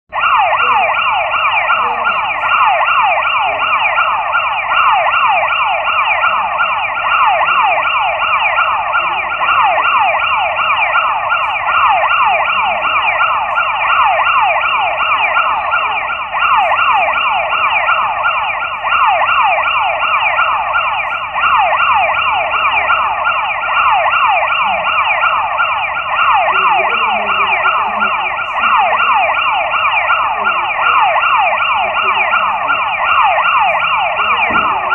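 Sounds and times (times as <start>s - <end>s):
phone emergency alert tone: 0.1s - 34.9s.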